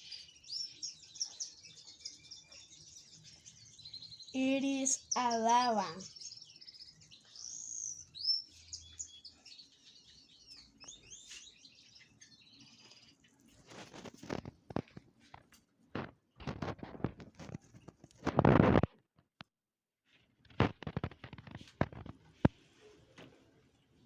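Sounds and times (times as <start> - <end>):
small birds chirping: 0.0 - 18.9, 20.6 - 22.6.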